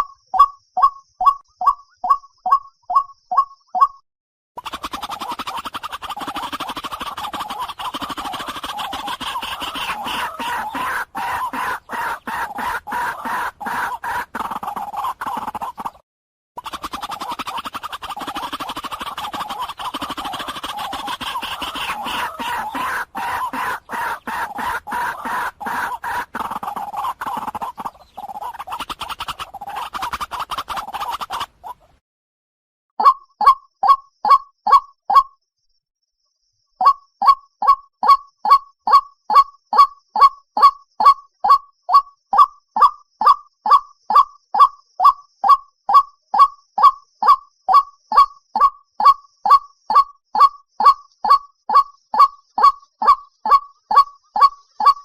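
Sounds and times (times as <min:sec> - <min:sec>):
bird croaking calls: 0:04.6 - 0:16.0, 0:16.6 - 0:32.0, 0:36.8 - 0:55.0.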